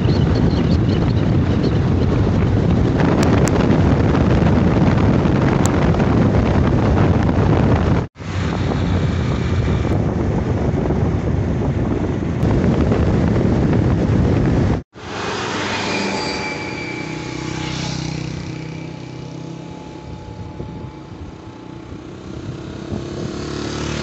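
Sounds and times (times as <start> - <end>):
wind buffeting microphone: 0.0 - 14.9, 18.0 - 24.0.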